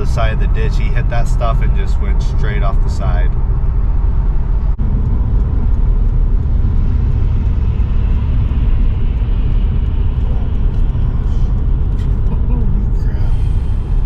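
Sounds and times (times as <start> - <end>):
car cabin rumble of tyres and engine: 0.0 - 14.0.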